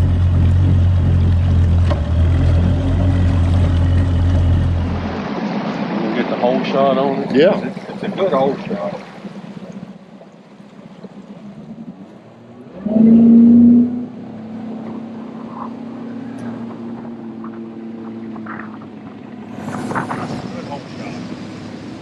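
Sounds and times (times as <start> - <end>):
outboard engine hum: 0.0 - 22.0
wind and water noise: 0.0 - 22.0.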